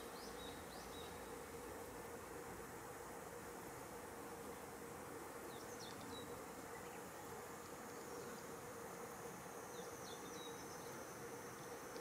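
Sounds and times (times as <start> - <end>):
insect buzz: 0.0 - 12.0.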